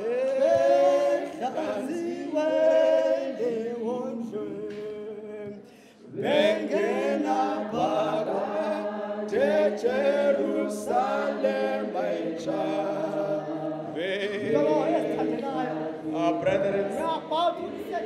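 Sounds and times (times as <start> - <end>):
voices singing a hymn: 0.0 - 18.0.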